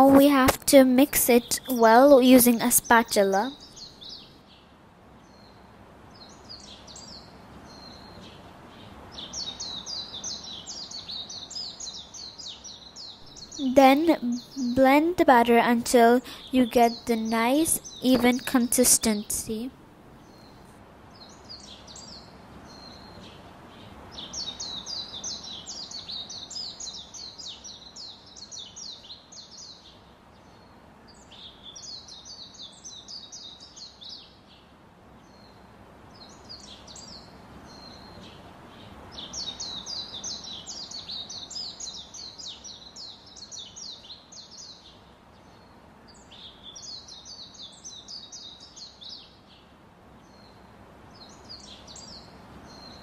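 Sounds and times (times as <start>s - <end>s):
faint steady noise: 0.0s - 53.0s.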